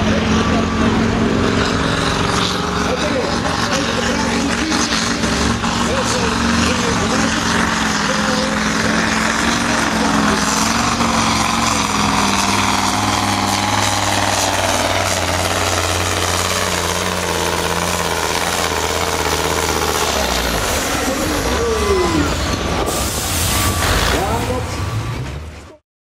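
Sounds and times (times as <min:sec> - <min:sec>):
truck diesel engine running: 0:00.0 - 0:25.8.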